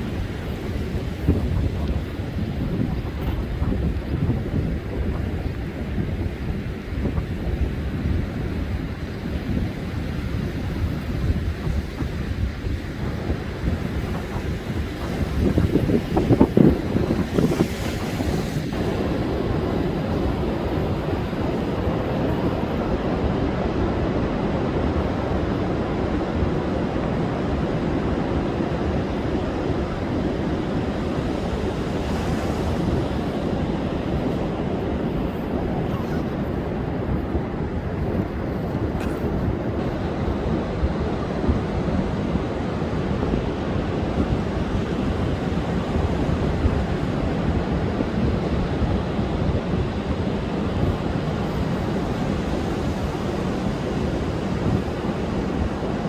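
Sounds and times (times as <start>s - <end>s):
heavy surf breaking: 0.0s - 56.0s
wind buffeting microphone: 0.0s - 56.0s.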